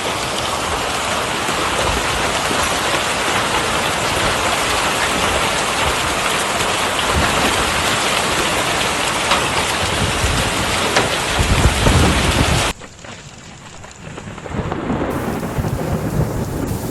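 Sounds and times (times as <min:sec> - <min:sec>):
heavy rain downpour: 0:00.0 - 0:16.9.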